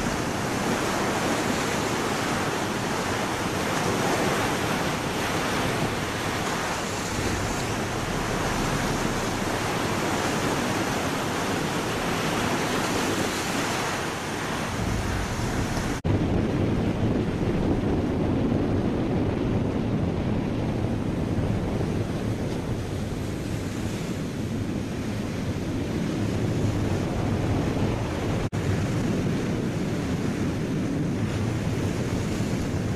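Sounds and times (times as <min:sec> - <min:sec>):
sea water rushing at ship's bow: 0:00.0 - 0:32.9
wind buffeting microphone: 0:00.0 - 0:32.9.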